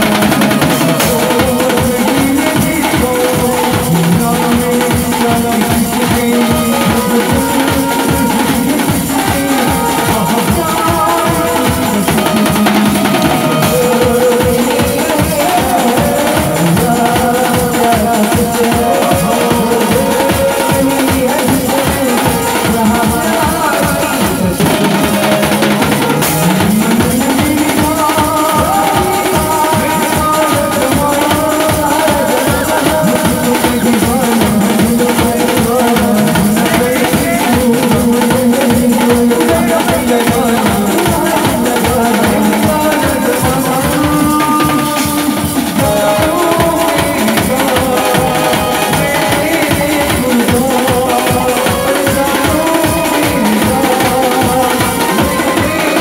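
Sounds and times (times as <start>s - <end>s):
drum kit fast beats: 0.0s - 56.0s.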